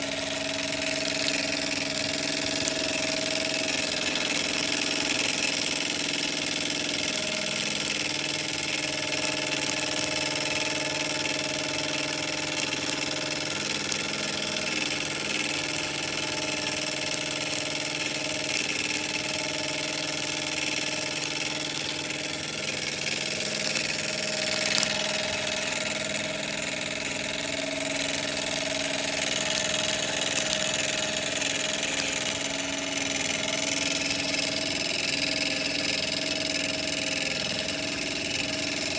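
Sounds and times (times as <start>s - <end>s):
miniature steam engine running: 0.0s - 38.9s
steam hissing: 0.0s - 38.9s.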